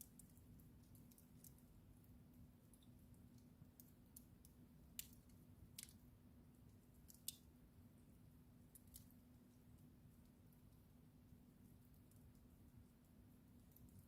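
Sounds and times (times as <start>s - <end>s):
faint low hum: 0.0s - 14.0s
wood fire crackling: 0.0s - 14.0s.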